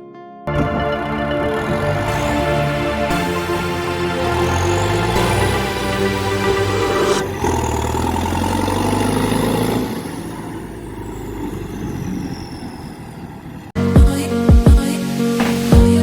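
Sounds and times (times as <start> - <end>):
tractor diesel engine running: 0.5 - 14.1.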